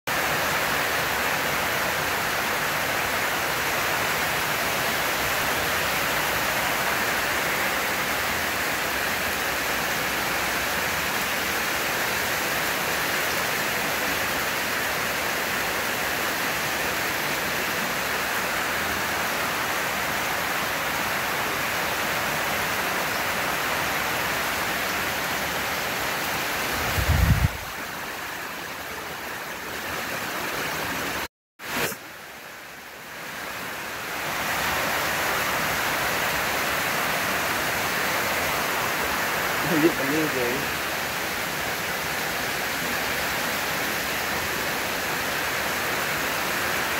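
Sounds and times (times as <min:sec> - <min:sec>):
heavy rain falling: 0:00.1 - 0:46.9.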